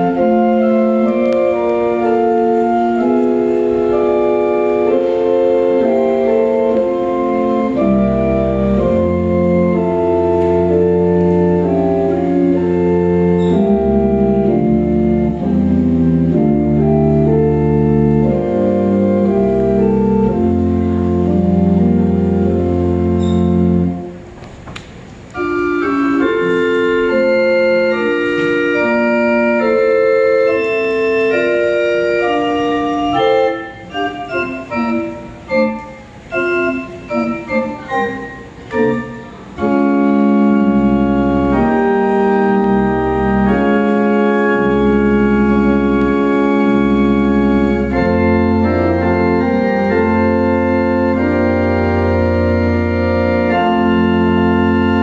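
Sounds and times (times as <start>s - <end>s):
pipe organ playing: 0.0s - 24.5s, 25.2s - 55.0s.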